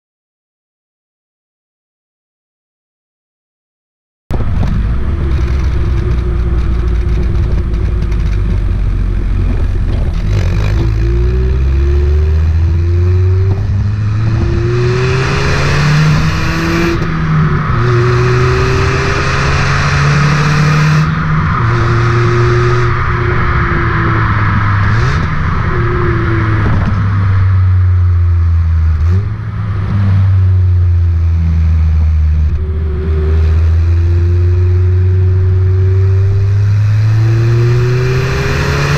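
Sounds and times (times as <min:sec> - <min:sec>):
car engine revving: 0:04.3 - 0:38.9.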